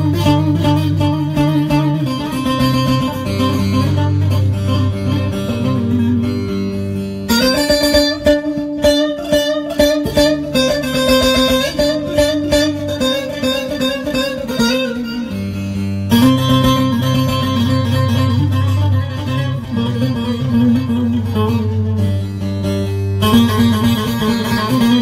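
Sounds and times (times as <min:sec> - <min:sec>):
long-necked lute played with plectrum: 0:00.0 - 0:25.0.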